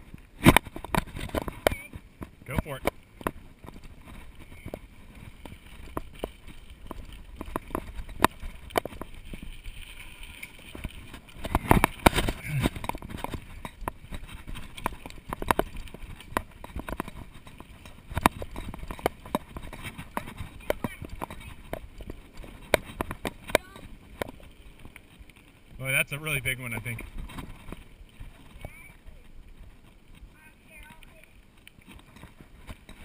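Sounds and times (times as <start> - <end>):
bike knocking and rattling: 0.0 - 33.0
tyres rumbling on dirt trail: 0.0 - 33.0.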